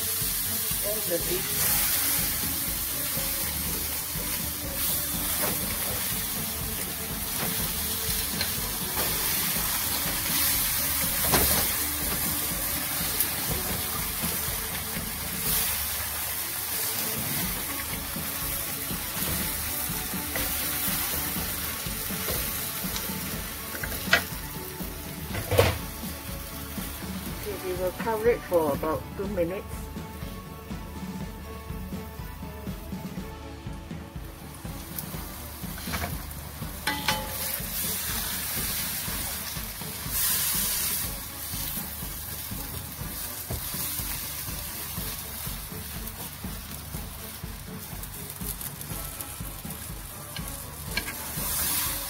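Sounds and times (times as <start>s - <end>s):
leaves sizzling in hot oil: 0.0s - 33.3s, 33.9s - 52.0s.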